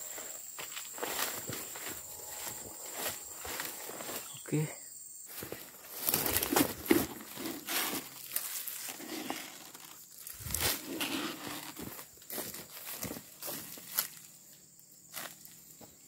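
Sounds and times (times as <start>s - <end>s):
footsteps crunching through dry leaves: 0.0s - 4.6s, 5.3s - 14.4s.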